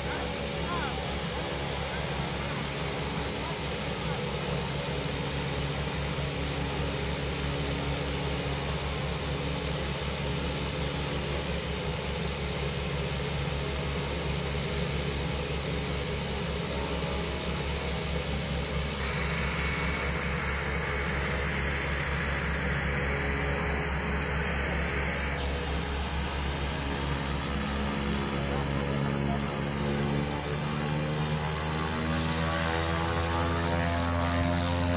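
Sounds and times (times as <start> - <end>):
turbine hiss: 0.0 - 34.9
turboprop engine running: 0.0 - 34.9.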